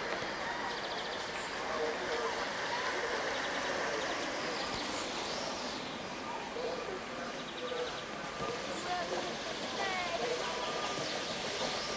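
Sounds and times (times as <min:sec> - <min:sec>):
steam locomotive running: 0:00.0 - 0:11.9.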